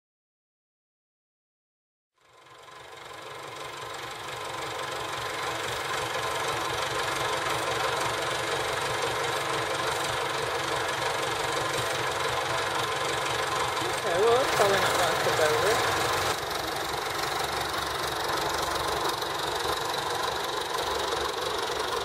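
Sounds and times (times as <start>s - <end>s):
engine-driven machinery running: 2.2s - 22.0s.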